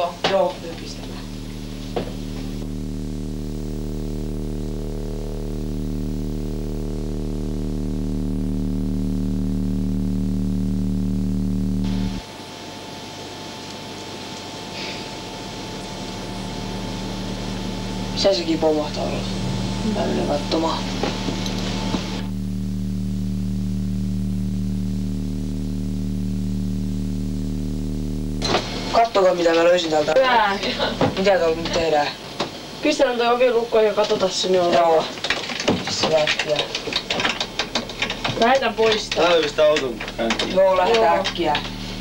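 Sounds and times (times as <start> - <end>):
low synthesizer drone: 0.0 - 31.8, 37.0 - 42.0
electrical hum with buzzing overtones: 0.0 - 42.0.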